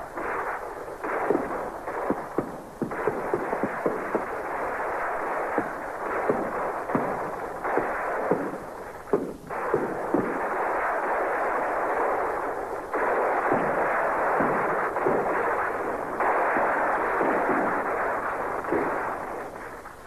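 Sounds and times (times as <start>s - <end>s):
gunshots: 0.0s - 20.0s.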